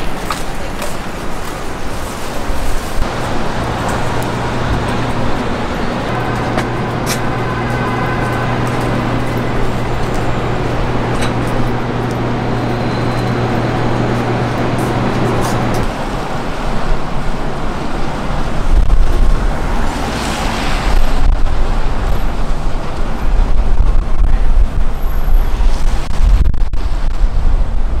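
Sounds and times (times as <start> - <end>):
passing vehicles rumbling: 0.0 - 28.0
wind buffeting microphone: 0.0 - 28.0.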